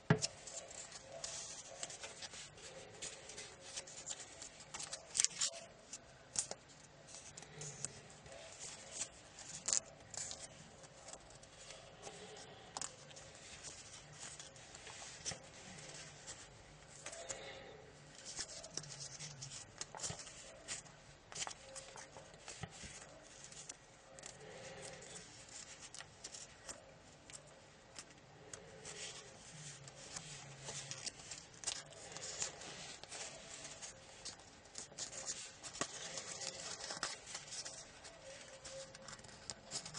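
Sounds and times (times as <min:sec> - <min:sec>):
paper folding and crinkling: 0:00.0 - 0:39.9.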